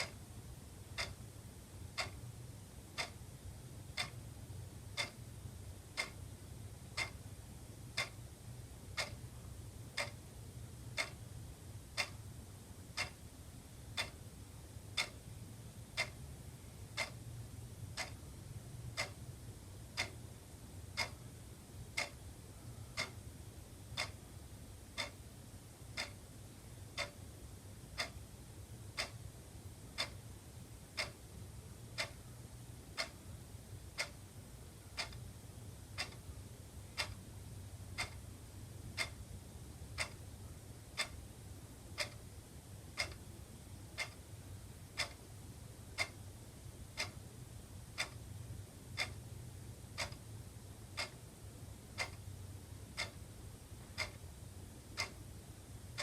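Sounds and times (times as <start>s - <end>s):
faint low hum: 0.0s - 56.0s
wall clock ticking: 0.0s - 56.0s.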